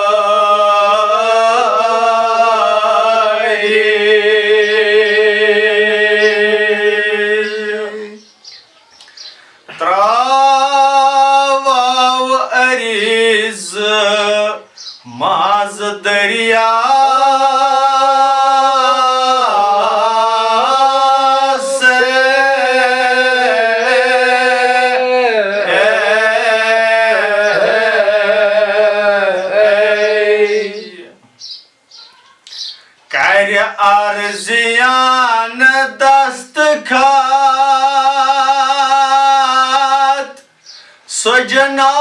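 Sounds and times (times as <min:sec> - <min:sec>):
man singing unaccompanied: 0:00.0 - 0:08.4, 0:09.7 - 0:31.2, 0:33.1 - 0:42.0.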